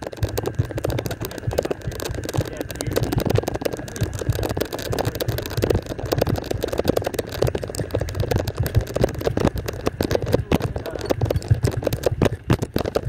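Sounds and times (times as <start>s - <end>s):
cart body rattling: 0.0s - 13.0s
golf cart driving over grass: 0.0s - 13.0s.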